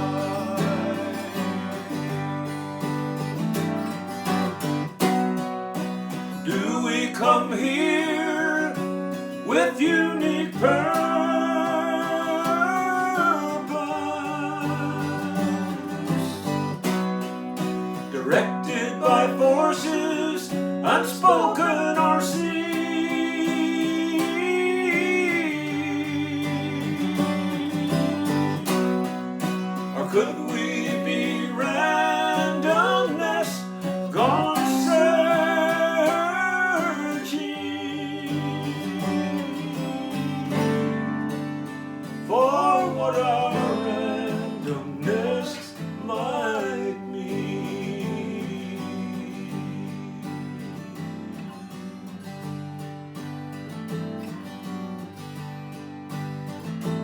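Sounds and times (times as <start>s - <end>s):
person singing slow ballad: 0.0s - 3.3s, 6.3s - 16.8s, 18.1s - 50.9s
acoustic guitar strumming: 0.0s - 57.0s.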